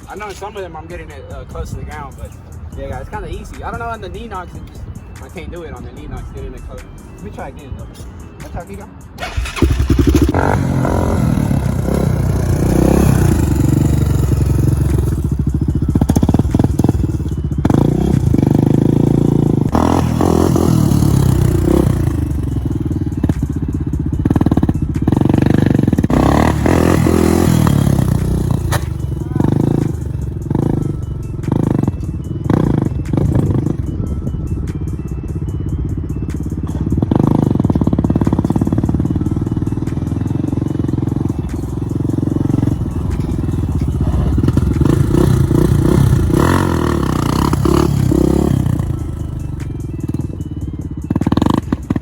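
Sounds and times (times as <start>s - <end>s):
quad engine revving: 9.2s - 50.4s, 51.0s - 52.0s.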